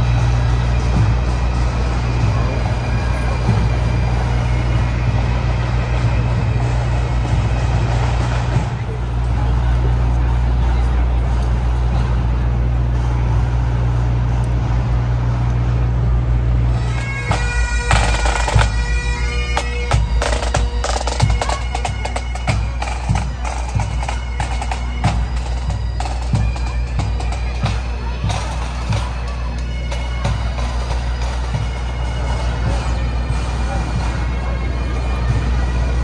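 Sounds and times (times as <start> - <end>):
bagpipe drone: 0.0 - 36.0
bagpipe melody: 0.0 - 36.0
drum beats: 0.0 - 36.0.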